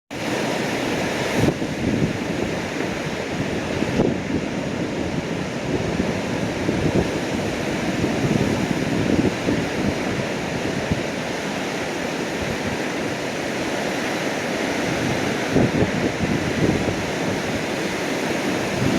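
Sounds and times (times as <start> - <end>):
waves breaking against rocks: 0.1 - 18.9
wind buffeting microphone: 0.1 - 18.9.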